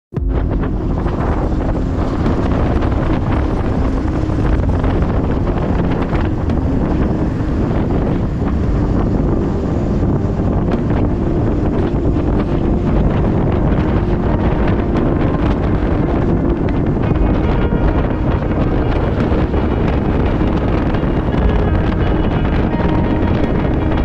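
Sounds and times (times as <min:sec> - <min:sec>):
low rumble: 0:00.1 - 0:24.0
wind buffeting microphone: 0:00.1 - 0:24.0
faint hum: 0:00.2 - 0:24.0.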